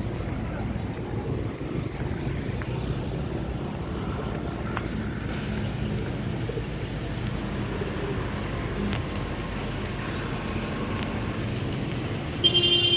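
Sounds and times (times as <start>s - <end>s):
low outdoor rumble: 0.0s - 12.4s.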